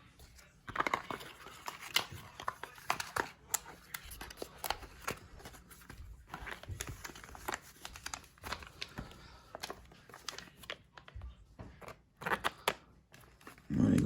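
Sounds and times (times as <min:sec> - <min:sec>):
packaging crinkling and rustling: 0:00.3 - 0:14.0.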